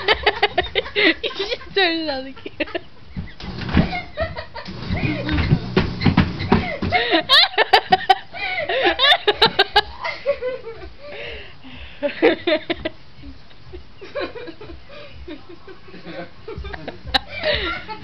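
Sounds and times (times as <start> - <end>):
people laughing hard: 0.0 - 5.7, 6.3 - 18.0.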